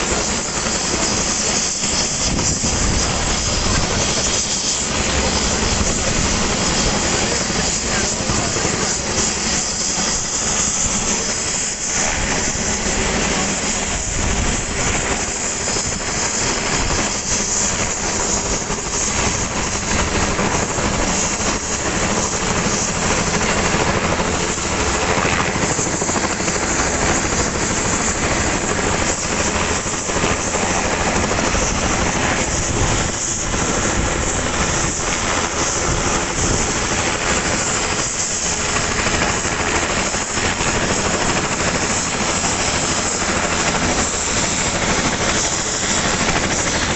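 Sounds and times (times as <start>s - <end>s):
helicopter engine and rotor: 0.0s - 46.9s.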